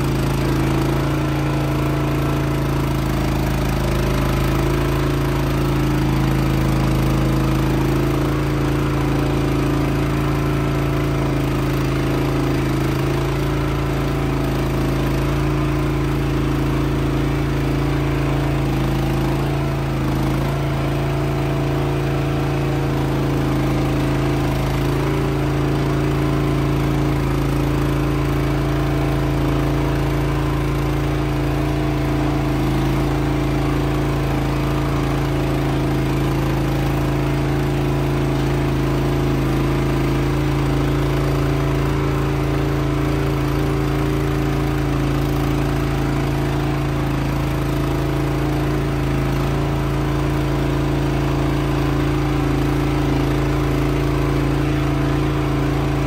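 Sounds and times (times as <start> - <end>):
machine humming steadily: 0.0 - 56.0.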